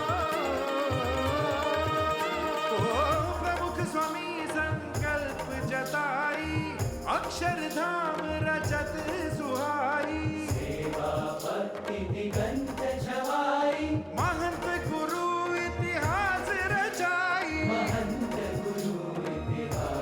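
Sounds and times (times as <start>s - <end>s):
ornamented devotional melody: 0.0s - 20.0s
steady drumming: 0.0s - 20.0s.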